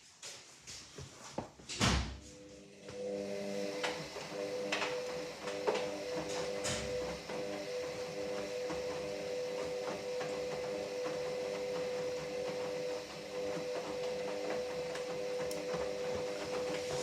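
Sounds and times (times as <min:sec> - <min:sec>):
washing machine motor whine: 0:01.7 - 0:17.0.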